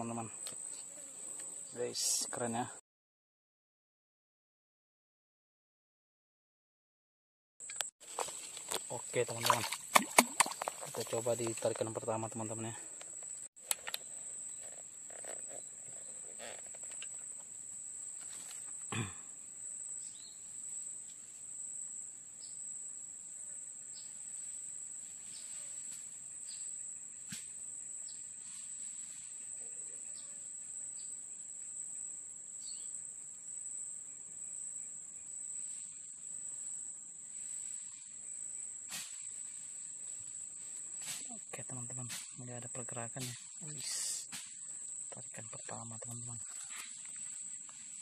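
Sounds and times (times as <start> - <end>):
insects droning: 0.0 - 2.8, 7.6 - 48.0.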